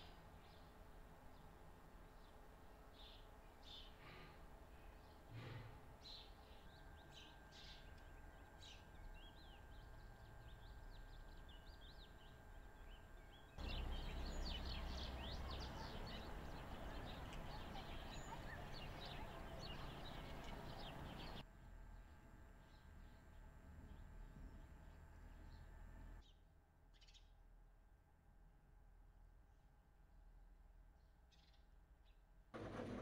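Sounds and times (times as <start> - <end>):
small birds chirping: 0.0 - 27.3.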